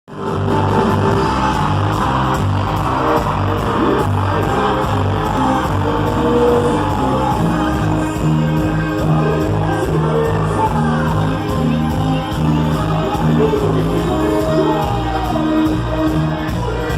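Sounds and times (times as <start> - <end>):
loud music with pulsing bass: 0.1 - 16.9.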